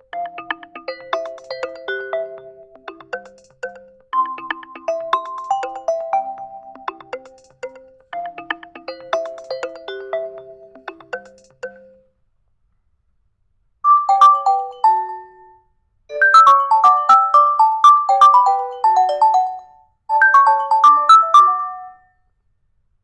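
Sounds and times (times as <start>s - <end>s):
phone ringtone melody: 0.0s - 12.0s, 13.9s - 22.2s.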